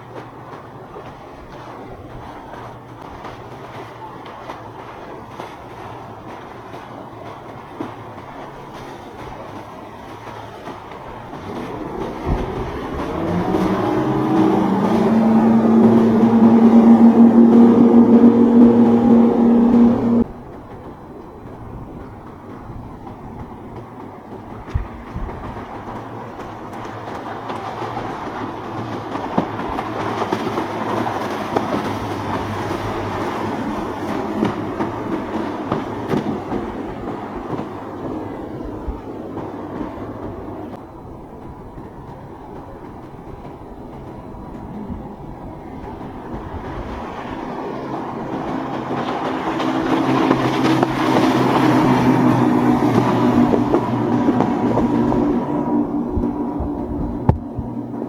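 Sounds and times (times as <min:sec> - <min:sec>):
boat engines rumbling: 0:00.0 - 0:58.0
rushing water: 0:00.0 - 0:58.0.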